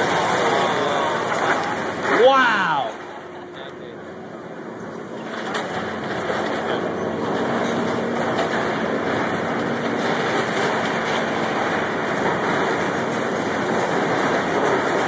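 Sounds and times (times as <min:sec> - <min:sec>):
excavator engine hum: 0:00.0 - 0:15.0
wrenching metal and debris: 0:00.0 - 0:15.0.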